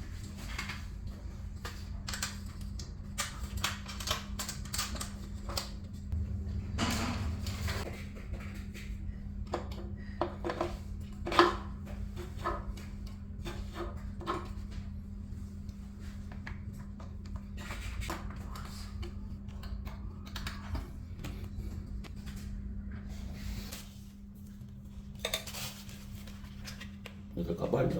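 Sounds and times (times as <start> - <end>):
steady low hum: 4.5 - 27.9.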